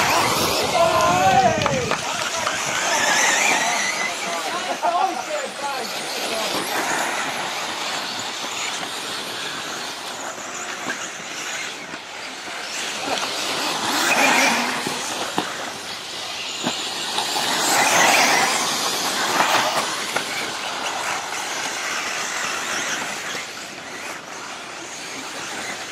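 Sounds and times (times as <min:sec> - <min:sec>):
rc cars motors whining: 0:00.0 - 0:25.9
tyres on dirt: 0:00.0 - 0:25.9.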